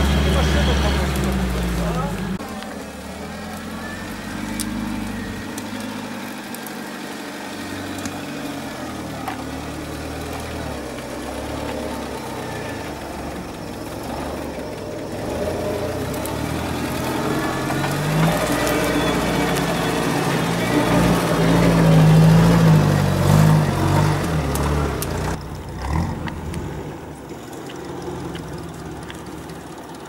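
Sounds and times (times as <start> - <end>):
off-road vehicle engine at low revs: 0.0 - 30.0.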